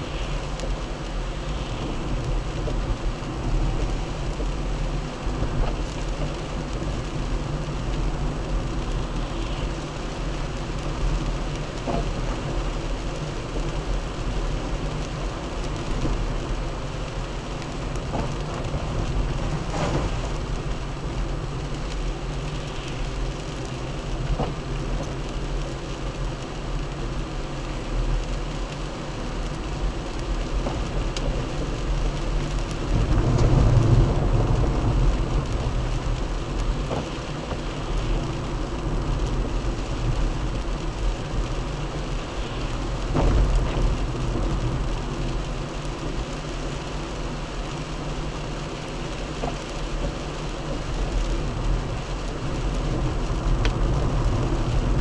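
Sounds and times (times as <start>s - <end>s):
car engine and tyre rumble: 0.0s - 55.0s
rain and spray hissing: 0.0s - 55.0s.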